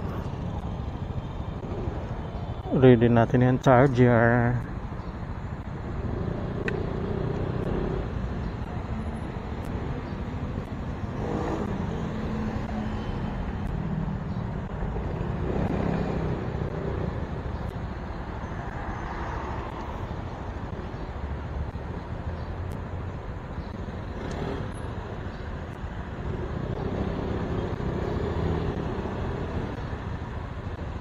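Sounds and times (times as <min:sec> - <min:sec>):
vehicles passing on road: 0:00.0 - 0:31.0.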